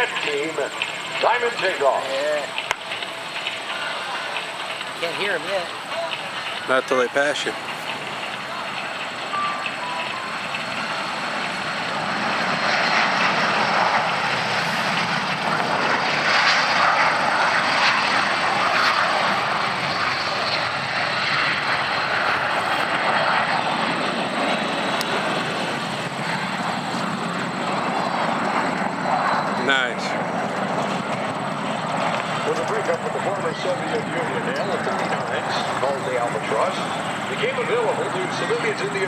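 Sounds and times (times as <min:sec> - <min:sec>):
jet roar: 0:00.0 - 0:39.0.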